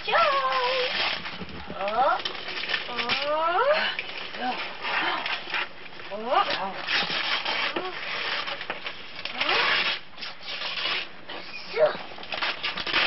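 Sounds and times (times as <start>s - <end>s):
wrapping paper rustling and tearing: 0.0s - 13.0s.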